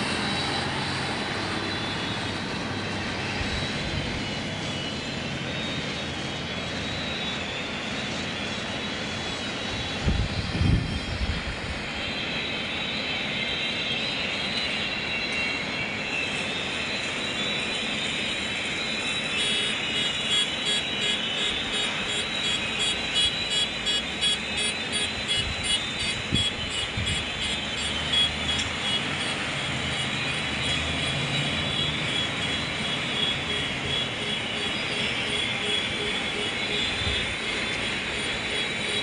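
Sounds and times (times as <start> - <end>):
high steady whine: 0.0 - 39.0.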